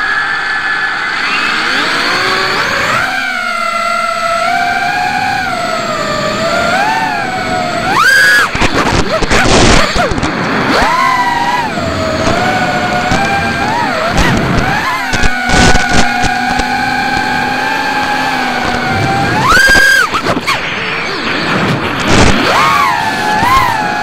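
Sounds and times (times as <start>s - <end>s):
loud rough rushing noise: 0.0s - 24.0s
quadcopter motors whining: 0.0s - 24.0s.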